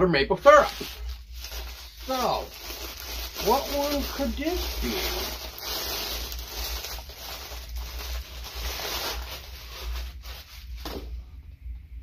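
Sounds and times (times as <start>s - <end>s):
cloth wrapping rustling: 0.4s - 11.1s.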